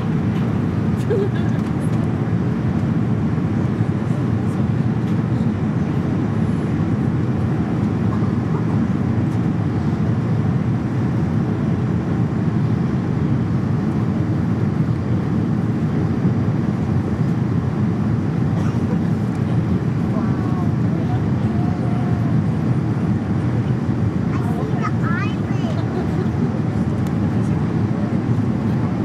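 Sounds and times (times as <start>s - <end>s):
airliner cabin engine roar: 0.0s - 29.0s.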